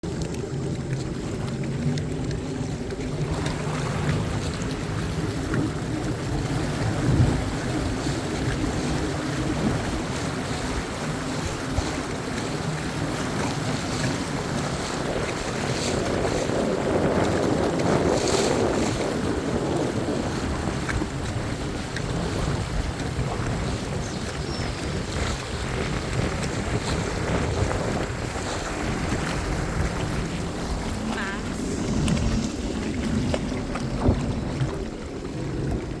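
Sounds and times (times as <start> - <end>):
motorboat engine running: 0.0 - 36.0
water rushing past hull: 0.0 - 36.0
wind buffeting microphone: 0.0 - 36.0.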